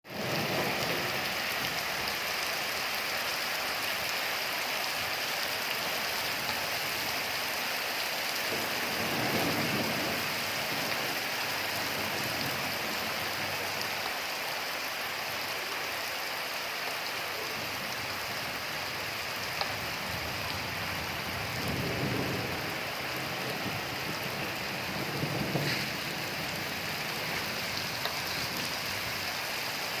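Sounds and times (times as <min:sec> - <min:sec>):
rain pattering: 0:00.1 - 0:30.0.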